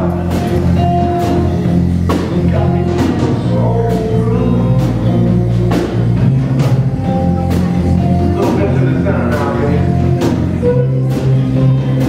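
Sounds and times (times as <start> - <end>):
bass guitar: 0.0 - 12.0
drum hits: 0.0 - 12.0
electric guitar: 0.0 - 12.0.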